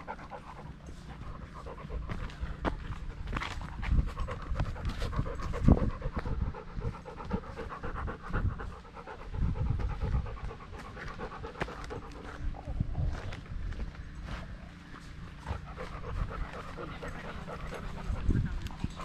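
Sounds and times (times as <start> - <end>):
dog panting fast: 0.0 - 13.3, 15.0 - 19.0.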